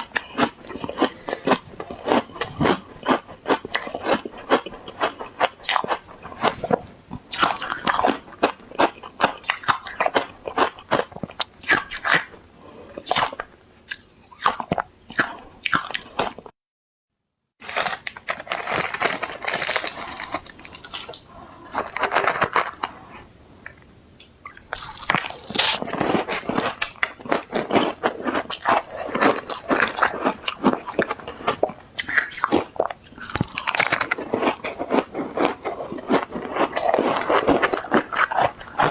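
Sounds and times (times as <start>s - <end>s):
ice being chewed: 0.0s - 16.5s, 17.9s - 22.9s, 24.4s - 38.9s.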